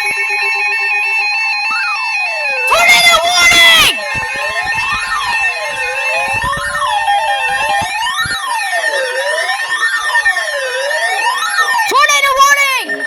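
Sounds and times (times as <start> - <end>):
electronic siren tones wailing: 0.0 - 13.0
steady high tone: 0.0 - 13.0.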